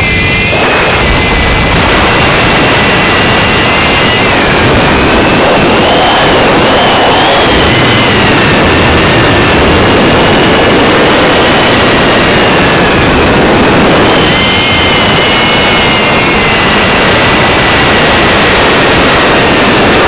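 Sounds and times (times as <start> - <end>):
drone propellers rushing: 0.0 - 20.0
high motor whine: 0.0 - 20.0.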